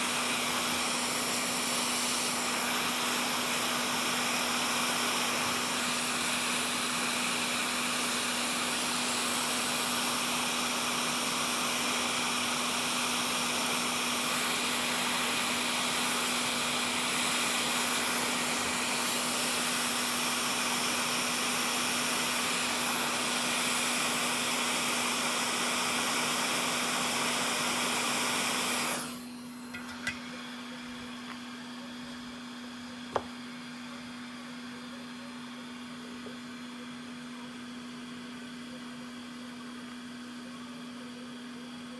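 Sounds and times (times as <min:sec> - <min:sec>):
hot air station blowing: 0:00.0 - 0:41.0.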